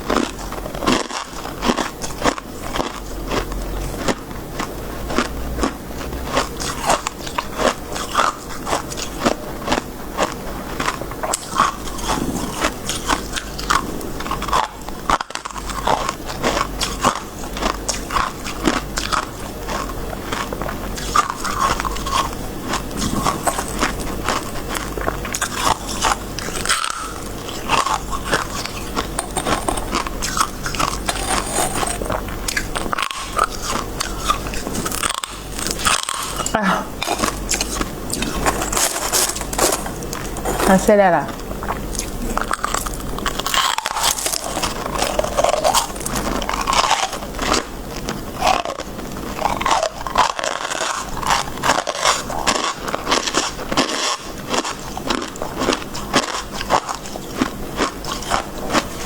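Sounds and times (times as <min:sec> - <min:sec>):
chewing crunchy ice: 0:00.0 - 0:59.0.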